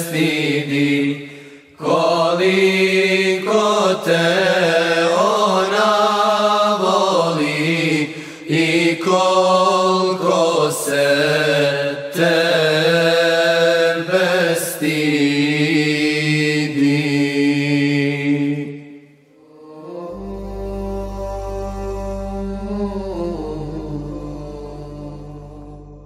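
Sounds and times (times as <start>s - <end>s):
choir singing a cappella: 0.0s - 26.0s.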